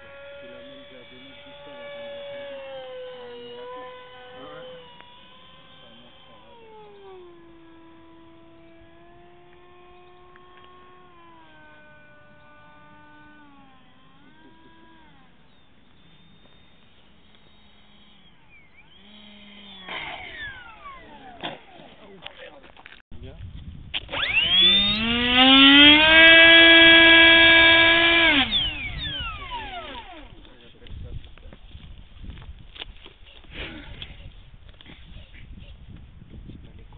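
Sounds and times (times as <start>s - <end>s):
model airplane motor whining: 0.0s - 23.0s, 23.6s - 36.9s.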